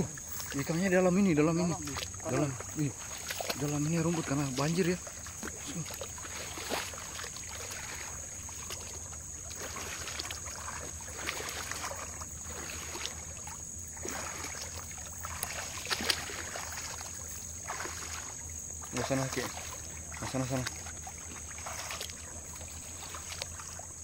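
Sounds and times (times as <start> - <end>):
wading through shallow water: 0.0 - 24.0.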